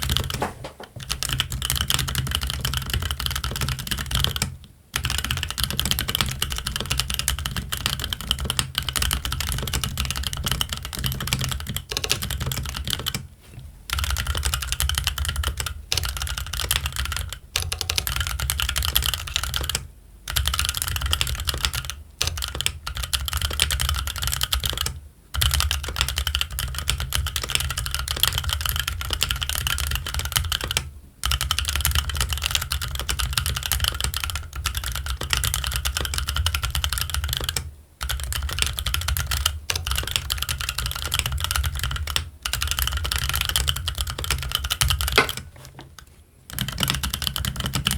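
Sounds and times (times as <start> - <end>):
fast typing on mechanical keyboard: 0.0 - 13.3, 13.9 - 45.8, 46.5 - 47.9.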